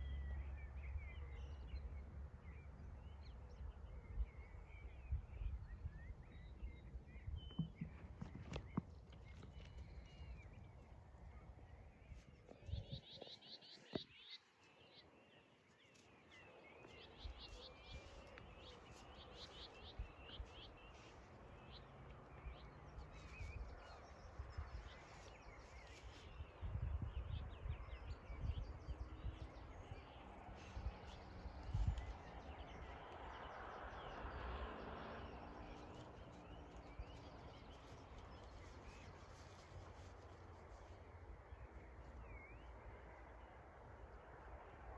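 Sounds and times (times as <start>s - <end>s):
low wind rumble on microphone: 0.0s - 14.4s, 15.8s - 44.9s
small birds chirping: 0.0s - 43.6s.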